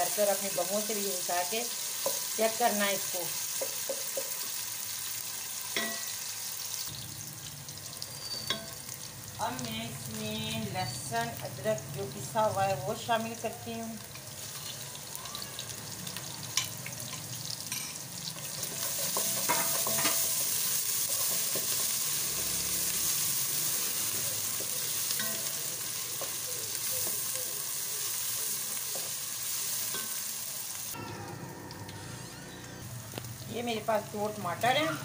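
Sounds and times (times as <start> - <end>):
onions sizzling in hot oil: 0.0 - 31.0, 32.8 - 35.0.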